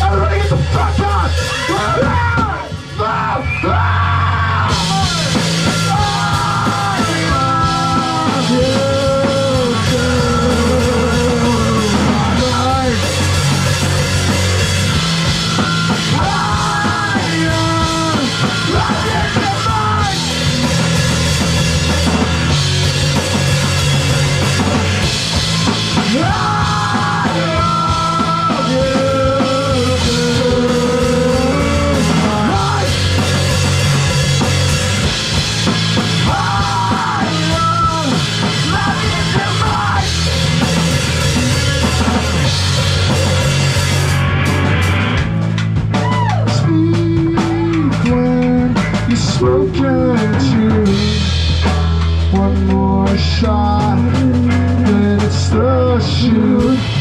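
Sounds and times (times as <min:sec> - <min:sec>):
bass guitar: 0:00.0 - 0:57.0
distorted guitar: 0:00.0 - 0:57.0
drum kit: 0:00.0 - 0:57.0.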